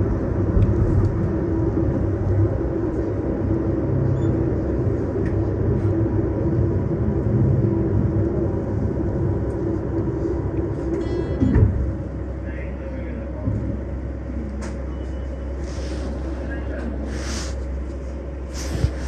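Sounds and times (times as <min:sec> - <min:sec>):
light-rail train rumbling on track: 0:00.0 - 0:19.0.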